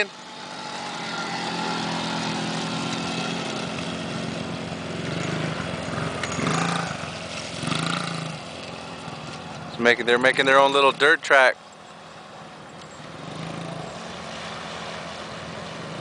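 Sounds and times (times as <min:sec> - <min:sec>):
small atv engine revving: 0:00.0 - 0:11.3, 0:12.8 - 0:16.0
dirt bike engine: 0:00.0 - 0:16.0.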